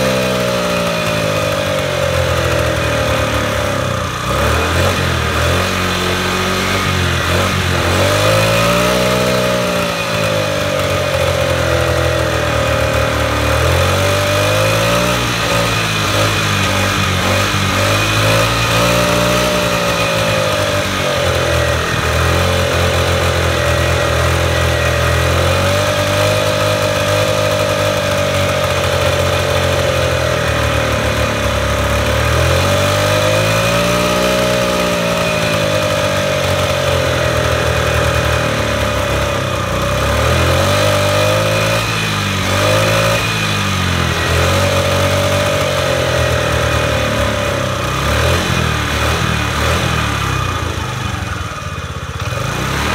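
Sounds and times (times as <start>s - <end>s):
scooter engine idling and revving: 0.0s - 52.9s.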